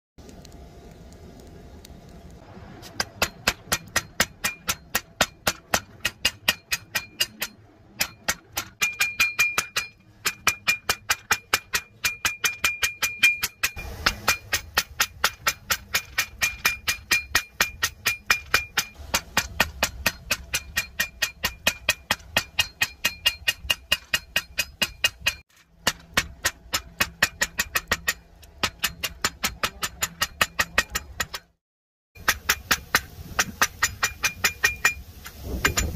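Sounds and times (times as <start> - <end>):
hammer striking steel on anvil: 2.9 - 31.6, 32.2 - 35.9.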